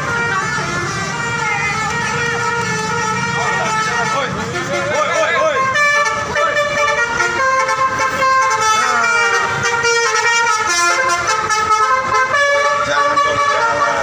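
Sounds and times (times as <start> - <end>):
musical air horns: 0.0 - 14.0.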